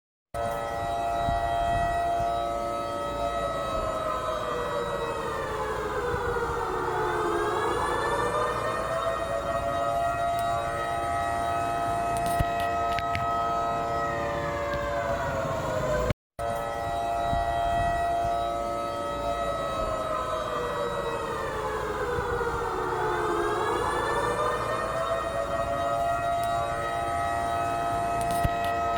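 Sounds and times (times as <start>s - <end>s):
warning siren falling in pitch: 0.4s - 28.9s.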